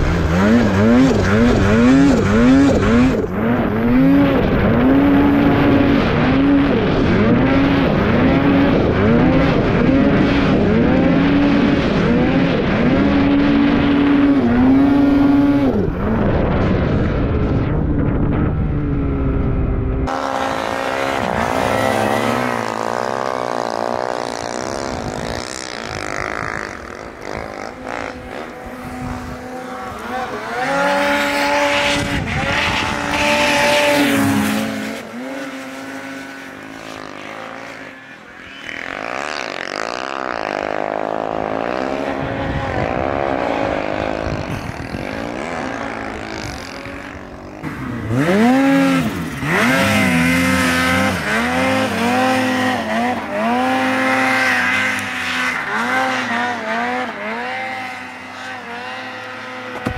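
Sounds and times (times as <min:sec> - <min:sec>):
snowmobile engines revving: 0:00.0 - 0:59.9.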